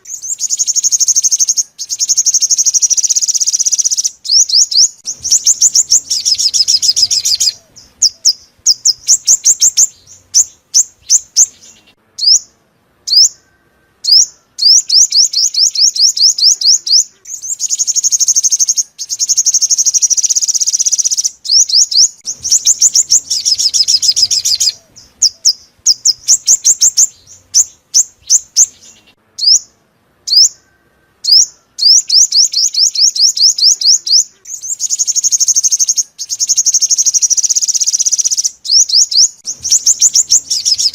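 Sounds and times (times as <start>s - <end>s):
buzzy bird trill: 0.0s - 40.9s
sunbird song: 0.0s - 40.9s.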